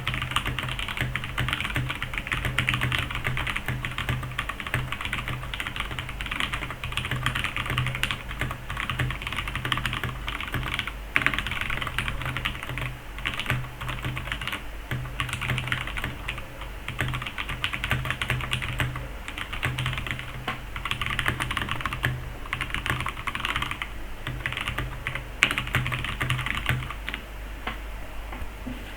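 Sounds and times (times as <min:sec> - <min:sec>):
mechanical keyboard typing: 0:00.0 - 0:27.2.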